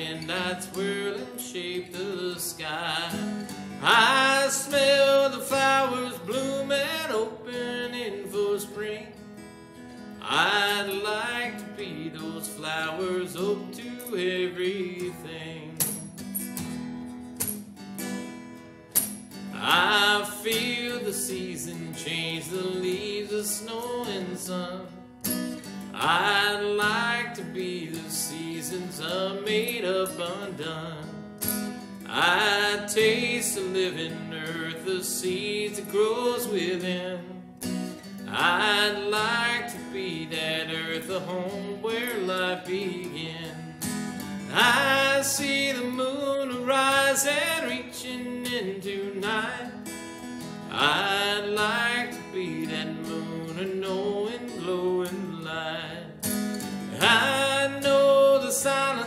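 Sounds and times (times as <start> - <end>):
man singing folk song: 0.0 - 17.1, 17.8 - 59.0
strummed acoustic guitar: 0.0 - 59.0.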